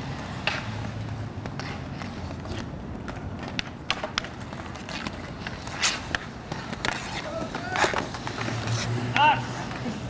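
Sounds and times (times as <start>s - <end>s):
hockey sticks clacking: 0.0s - 10.0s
skate wheels rolling on asphalt: 0.0s - 10.0s.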